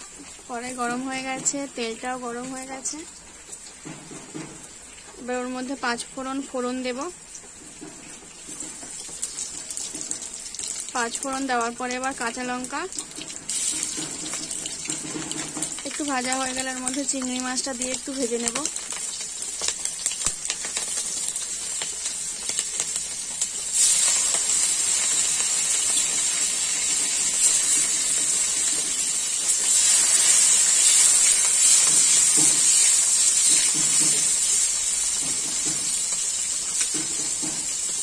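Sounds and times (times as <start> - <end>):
prawns sizzling in oil: 0.0 - 38.0
spices popping in hot oil: 0.0 - 38.0.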